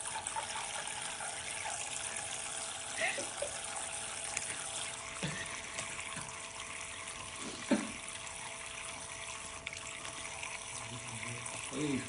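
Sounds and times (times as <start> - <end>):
running water from a tap: 0.0 - 12.0
water splashes: 0.0 - 12.0.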